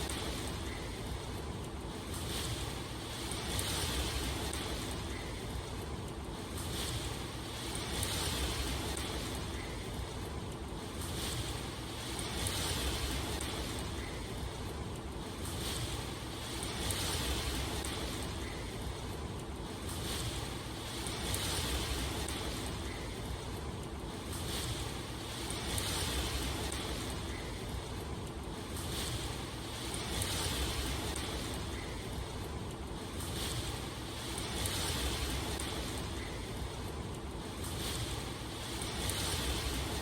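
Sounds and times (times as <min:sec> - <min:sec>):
rhythmic rushing water: 0:00.0 - 0:40.0.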